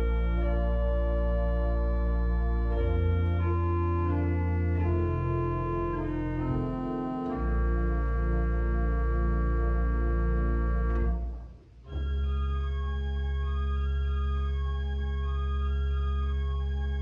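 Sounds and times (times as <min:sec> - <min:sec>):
church organ chords: 0:00.0 - 0:17.0
deep organ pedal bass: 0:00.0 - 0:17.0.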